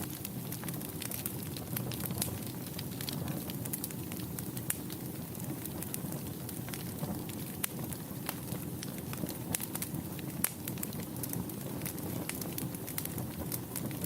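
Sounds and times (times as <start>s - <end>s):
fire popping: 0.0s - 14.0s
wood fire crackling: 0.0s - 14.0s.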